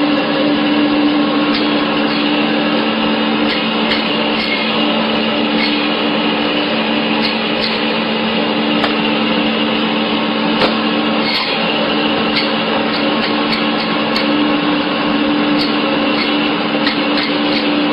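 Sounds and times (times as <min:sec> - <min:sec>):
machine motor humming: 0:01.0 - 0:17.9.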